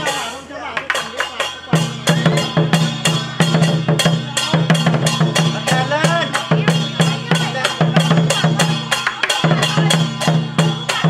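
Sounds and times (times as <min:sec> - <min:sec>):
cymbals clashing: 0:00.0 - 0:11.0
drum beaten in quick rhythm: 0:00.0 - 0:11.0.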